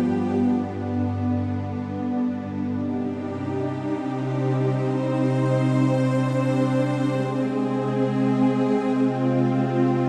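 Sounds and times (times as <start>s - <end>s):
slow sad ambient music: 0.0s - 10.0s.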